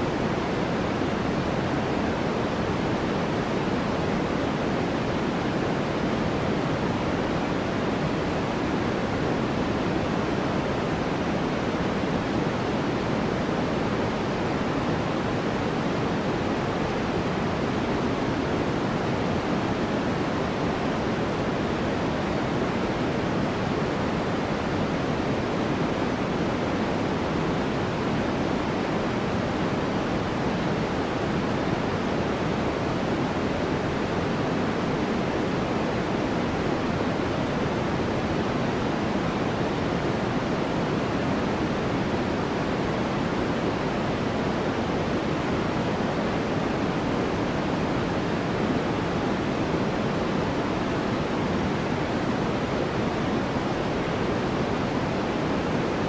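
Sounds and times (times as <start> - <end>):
steady white noise: 0.0 - 56.0.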